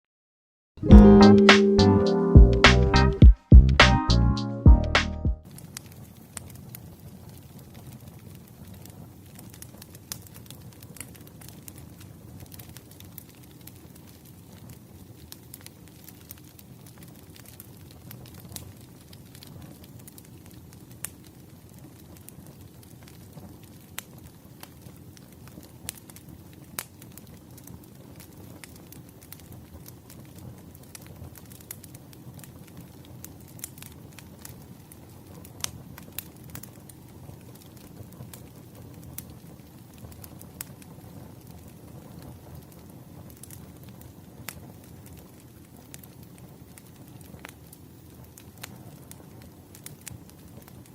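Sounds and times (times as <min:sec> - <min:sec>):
fire crackles and pops: 0:05.0 - 0:50.9
campfire burning: 0:05.4 - 0:50.9
low rumble of flames: 0:05.4 - 0:50.9.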